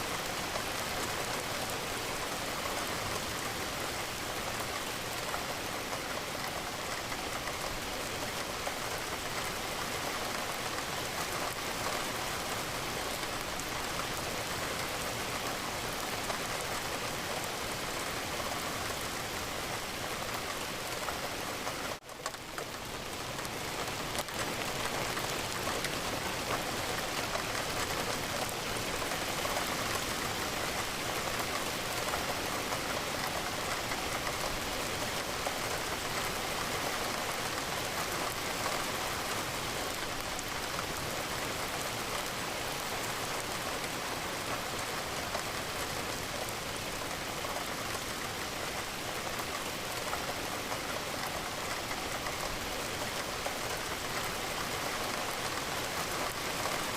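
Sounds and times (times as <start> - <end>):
rain pattering against a window: 0.0 - 56.9.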